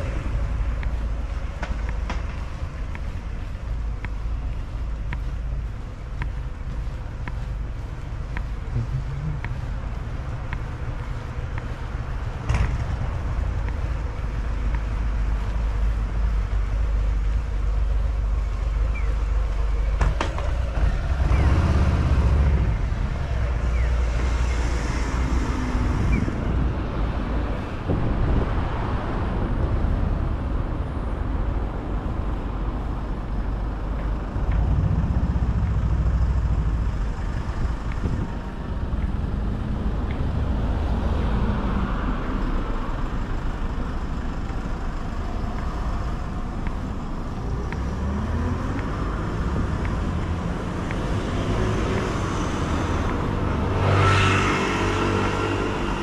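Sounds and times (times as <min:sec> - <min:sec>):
cars and motorbikes passing: 0:00.0 - 0:56.0.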